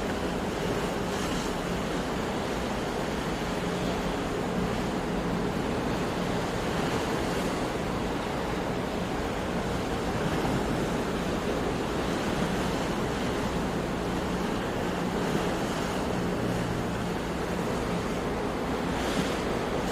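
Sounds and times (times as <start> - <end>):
sea waves surf rushing: 0.0 - 19.9.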